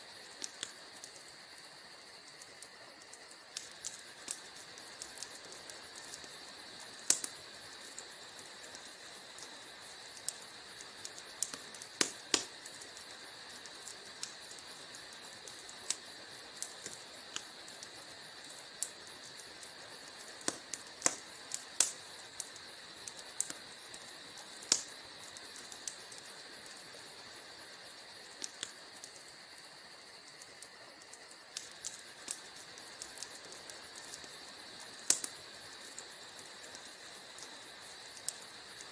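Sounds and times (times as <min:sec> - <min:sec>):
fire hissing softly: 0:00.0 - 0:38.9
fire popping and snapping: 0:00.0 - 0:38.9.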